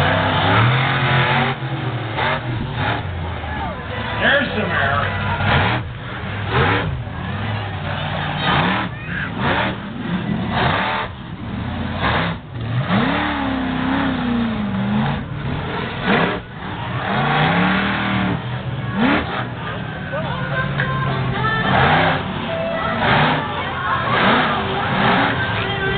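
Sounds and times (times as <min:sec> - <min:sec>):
monster truck engine revving: 0:00.0 - 0:25.9.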